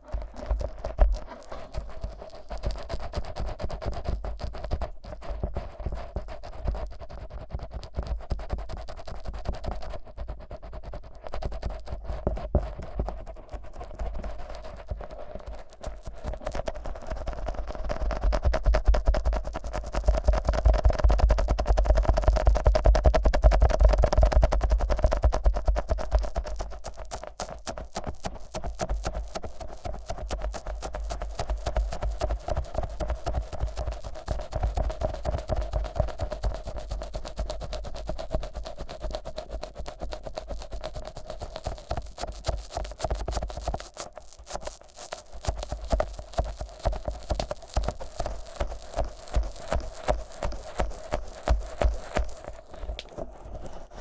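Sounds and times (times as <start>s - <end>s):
sticky fingers rubbing microphone: 0.0s - 54.0s.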